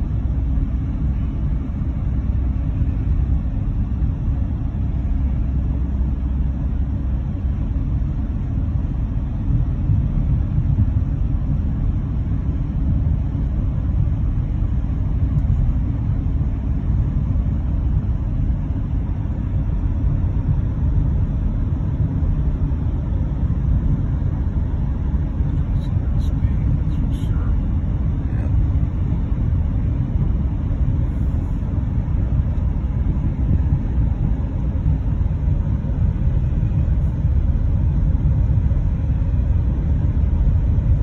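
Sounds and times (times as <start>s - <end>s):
car road and wind noise: 0.0s - 41.0s.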